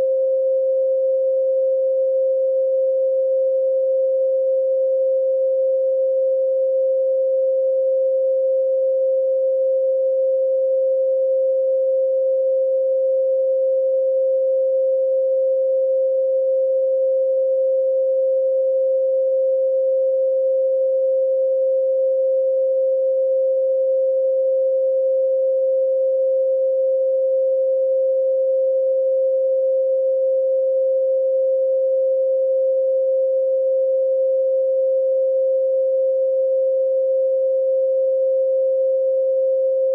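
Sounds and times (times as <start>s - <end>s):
steady pure tone: 0.0s - 39.9s.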